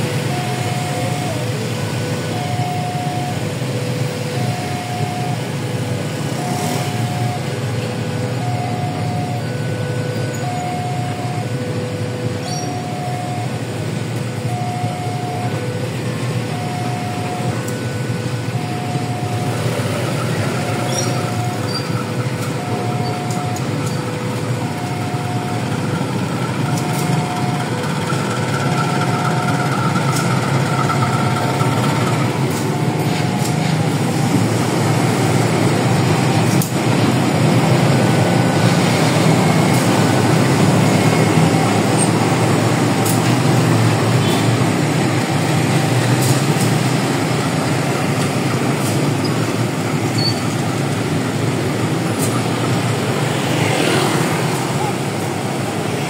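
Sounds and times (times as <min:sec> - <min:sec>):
level crossing signal chiming: 0:00.0 - 0:56.0
train rumbling: 0:00.0 - 0:56.0.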